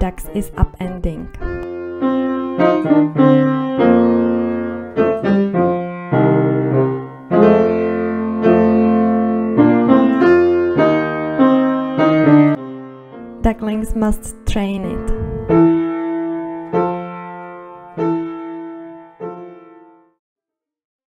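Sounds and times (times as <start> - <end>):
piano notes and chords: 0.0 - 20.2.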